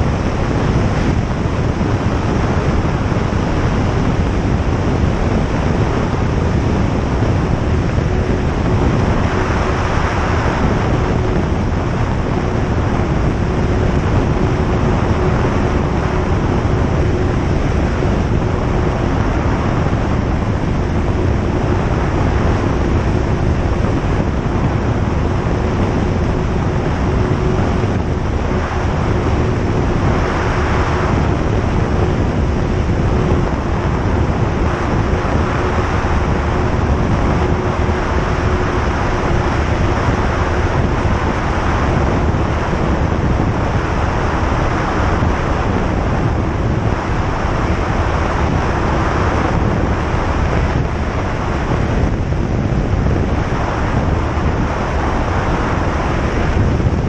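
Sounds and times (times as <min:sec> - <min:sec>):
aircraft engine and propeller drone: 0:00.0 - 0:57.0
airflow noise: 0:00.0 - 0:57.0
steady hum: 0:00.0 - 0:57.0.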